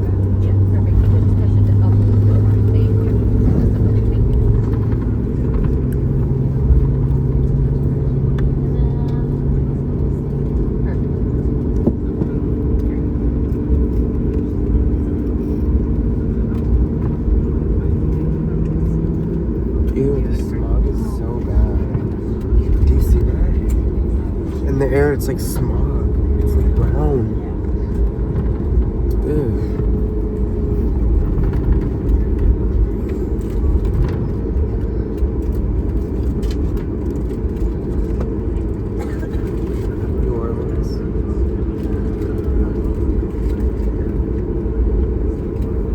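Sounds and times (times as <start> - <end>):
airplane engines rumbling in cabin: 0.0 - 45.9.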